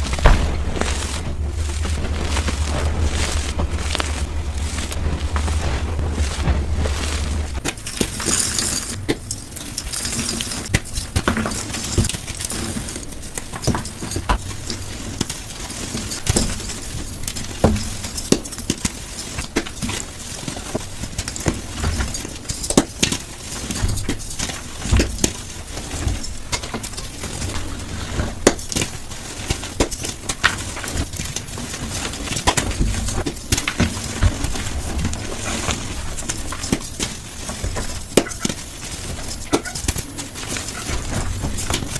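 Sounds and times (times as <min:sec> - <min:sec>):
chalk crunching and snapping: 0:00.0 - 0:25.5, 0:26.1 - 0:41.9.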